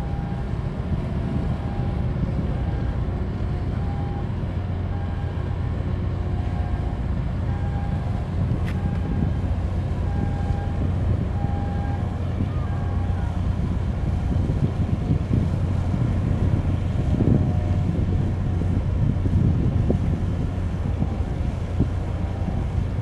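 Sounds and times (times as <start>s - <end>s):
boat engine rumble: 0.0s - 23.0s
wind buffeting microphone: 0.0s - 23.0s.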